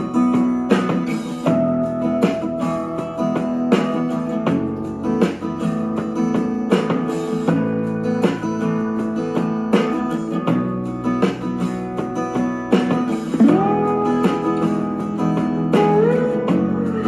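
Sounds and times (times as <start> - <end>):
guitar song through a speaker: 0.0 - 17.0.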